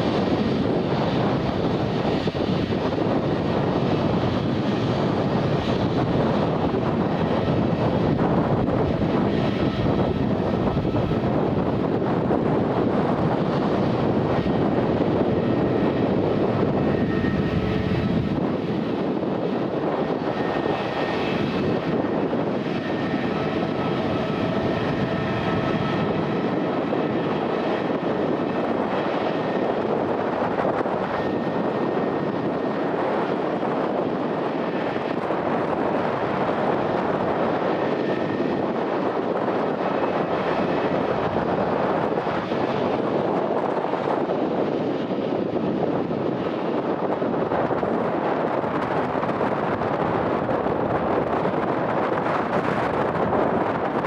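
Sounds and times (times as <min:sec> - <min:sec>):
jet engines at takeoff power: 0:00.0 - 0:54.0.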